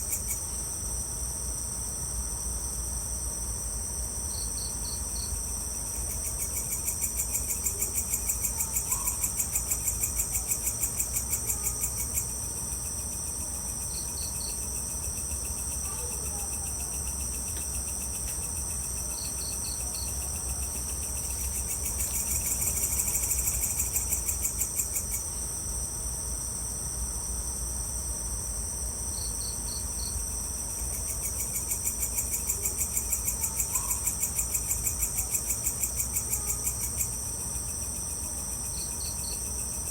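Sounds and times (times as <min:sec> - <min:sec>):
crickets trilling: 0:00.0 - 0:39.9
insect chirps: 0:00.0 - 0:39.9
low pulsing insect trill: 0:00.0 - 0:39.9.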